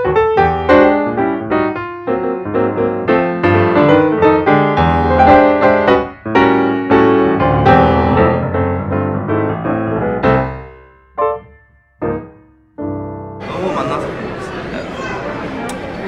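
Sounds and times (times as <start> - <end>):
light piano melody: 0.0 - 14.0.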